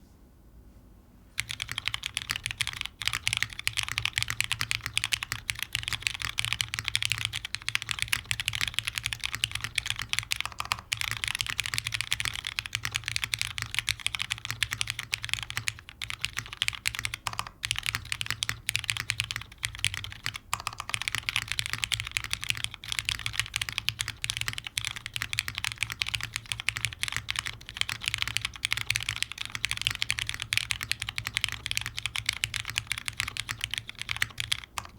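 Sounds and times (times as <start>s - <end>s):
fast mechanical keyboard typing: 1.4s - 34.9s.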